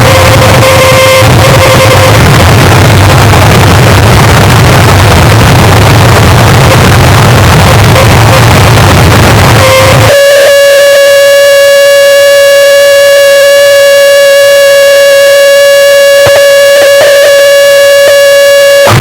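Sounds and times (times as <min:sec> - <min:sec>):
burst of dense noise: 0:00.0 - 0:19.0
buzzy electronic tone: 0:00.0 - 0:19.0
glitchy clicks: 0:00.0 - 0:19.0.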